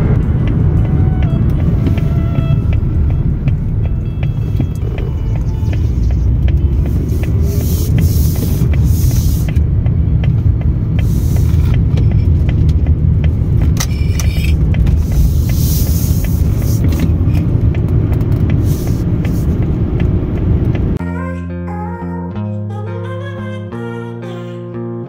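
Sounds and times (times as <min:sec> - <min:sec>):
light regular ticking: 0:00.0 - 0:21.0
car engine and road rumble: 0:00.0 - 0:21.3.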